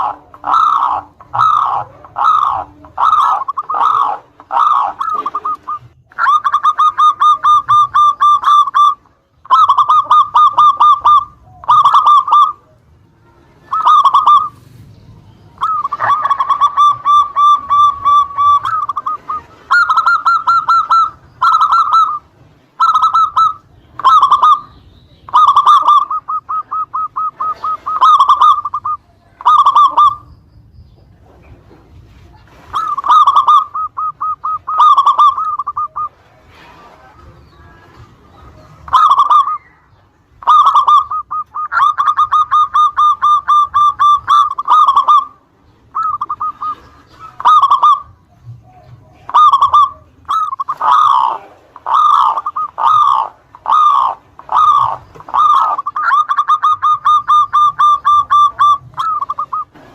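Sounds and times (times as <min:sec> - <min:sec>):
dove cooing in trills: 0:00.0 - 0:30.4, 0:31.2 - 0:59.9.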